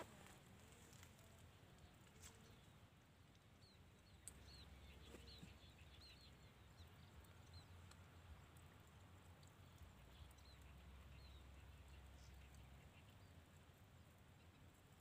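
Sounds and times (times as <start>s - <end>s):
small bird chirping faintly: 0.8s - 15.0s.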